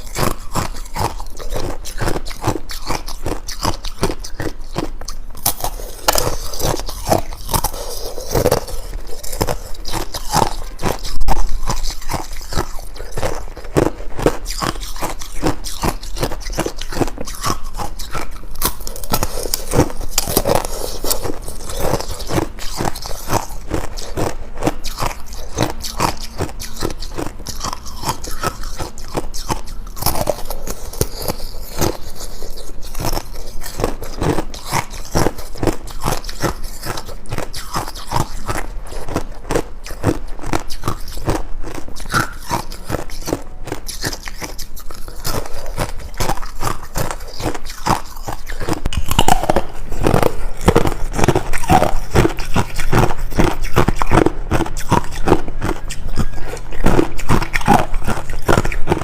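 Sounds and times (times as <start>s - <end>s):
ice crunching being chewed: 0.0s - 59.0s.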